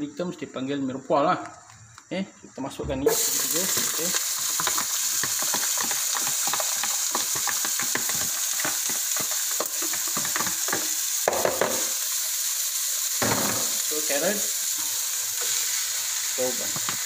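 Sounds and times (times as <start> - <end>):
onion sizzling and crackling in oil: 3.0 - 17.0.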